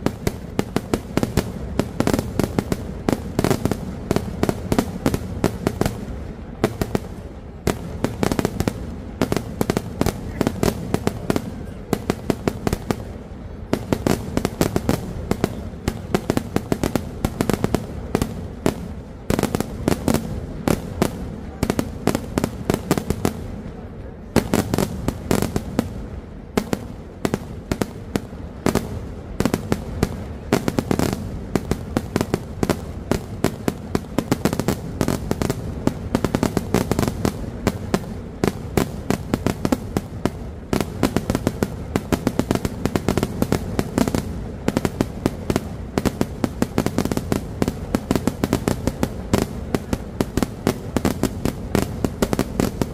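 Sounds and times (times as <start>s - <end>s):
fireworks bangs and cracks: 0.0s - 52.9s.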